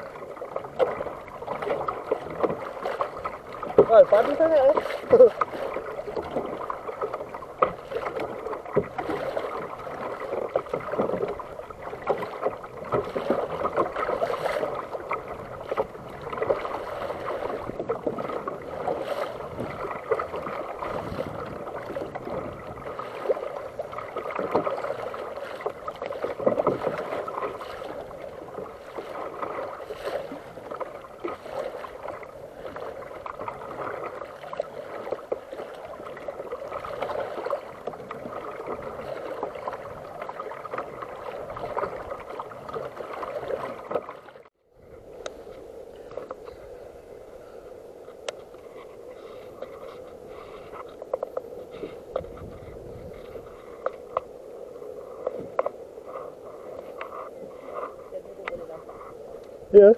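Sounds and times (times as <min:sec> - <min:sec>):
water lapping against hull: 0:00.0 - 0:59.9.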